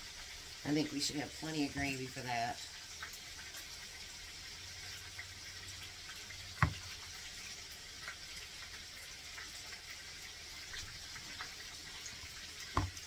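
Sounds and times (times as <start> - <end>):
patties sizzling in a skillet: 0.0 - 13.0.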